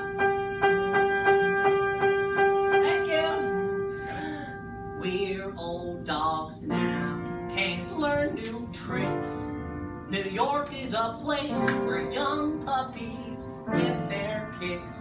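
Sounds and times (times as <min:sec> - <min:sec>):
piano accompaniment: 0:00.0 - 0:15.0.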